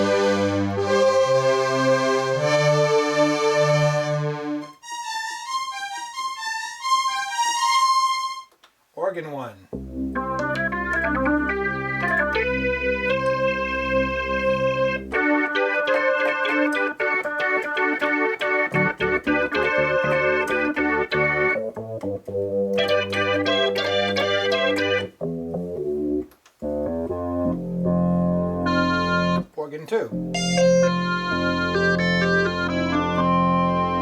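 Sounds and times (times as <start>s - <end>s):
synthesizer organ chords: 0.0s - 8.5s, 9.7s - 29.5s, 30.1s - 34.0s.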